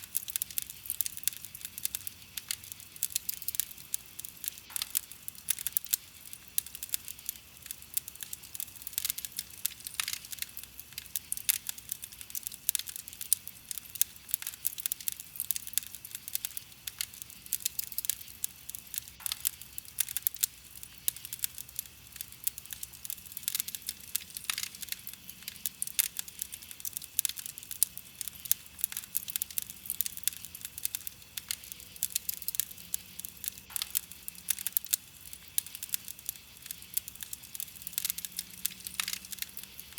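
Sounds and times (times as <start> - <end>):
campfire crackling and popping: 0.0 - 39.9
soft fire hiss: 0.0 - 39.9.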